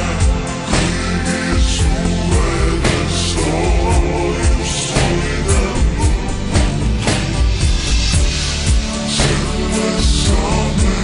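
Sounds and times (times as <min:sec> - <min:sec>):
slowed down pop song: 0:00.0 - 0:11.0.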